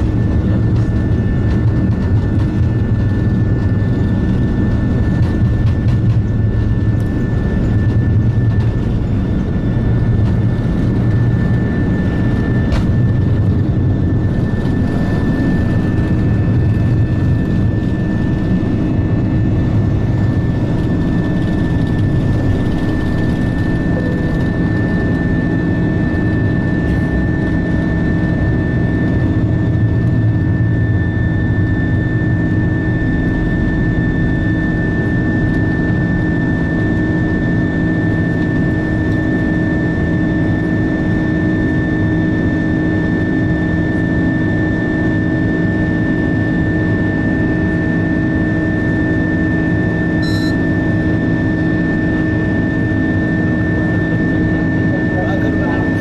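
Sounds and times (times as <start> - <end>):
jet engines rumbling in cabin: 0.0 - 56.0
steady engine tones: 0.0 - 56.0.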